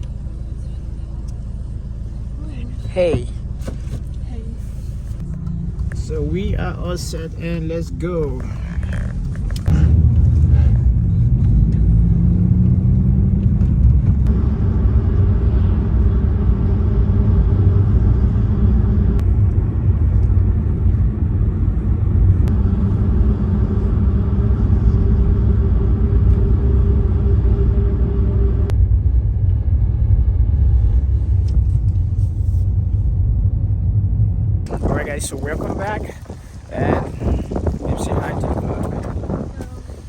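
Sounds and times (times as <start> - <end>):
car road and engine rumble: 0.0 - 40.0.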